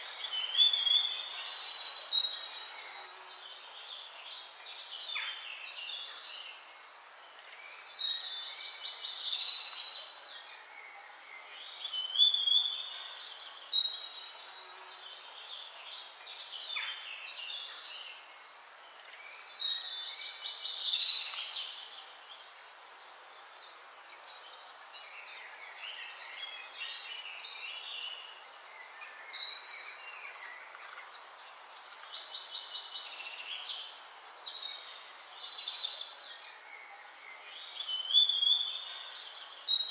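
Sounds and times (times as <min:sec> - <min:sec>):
faint hiss: 0:00.0 - 0:39.9
songbirds chirping: 0:00.0 - 0:39.9.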